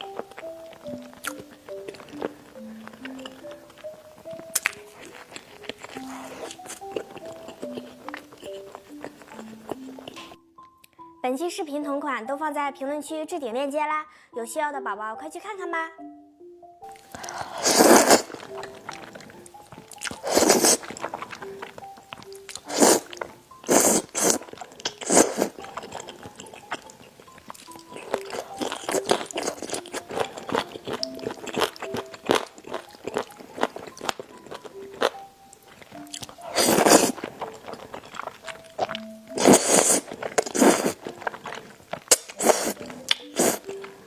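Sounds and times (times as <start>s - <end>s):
chewing and crunching food: 0.0s - 10.4s, 16.9s - 44.0s
light background music: 0.0s - 44.0s.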